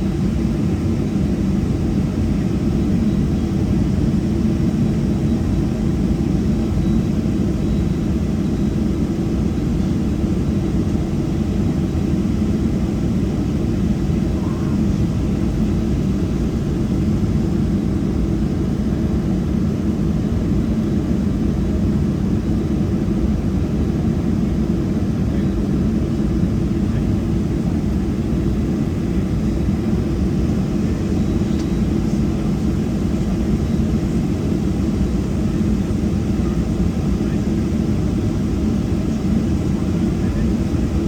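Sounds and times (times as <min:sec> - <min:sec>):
jet engines idling in cabin: 0:00.0 - 0:41.0.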